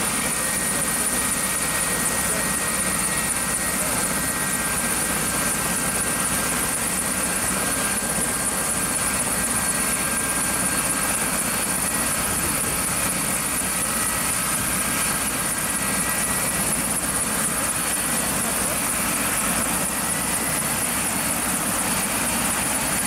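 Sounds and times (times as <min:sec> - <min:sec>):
helicopter turbine whine: 0:00.0 - 0:23.0.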